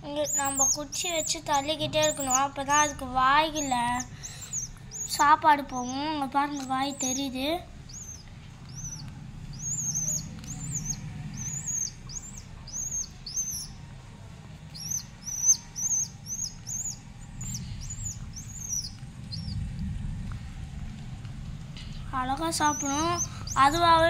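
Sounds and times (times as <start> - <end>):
baby bird begging chirps: 0.1 - 13.8, 14.7 - 19.6, 22.2 - 24.0.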